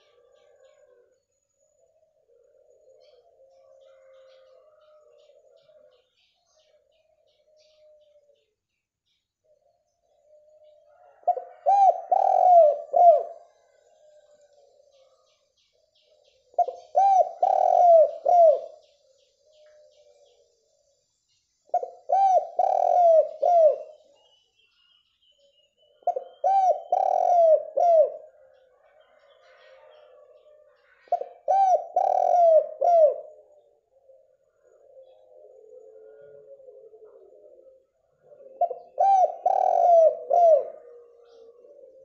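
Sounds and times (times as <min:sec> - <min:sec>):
dove cooing: 0:00.0 - 0:01.2, 0:01.8 - 0:08.5, 0:09.4 - 0:20.5, 0:21.7 - 0:24.3, 0:25.8 - 0:42.0.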